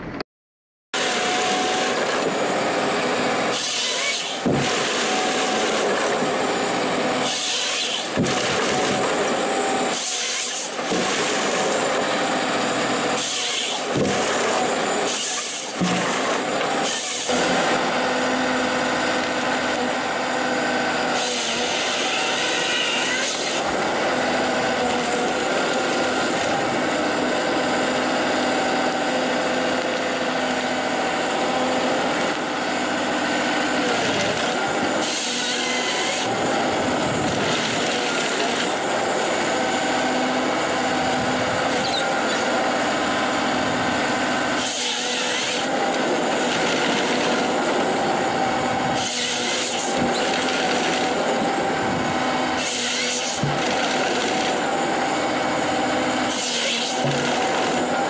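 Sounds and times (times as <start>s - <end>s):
feed rollers working trunk: 1.0s - 10.0s, 10.6s - 58.0s
chainsaw cutting logs: 1.0s - 58.0s
harvester engine and hydraulics: 1.0s - 58.0s.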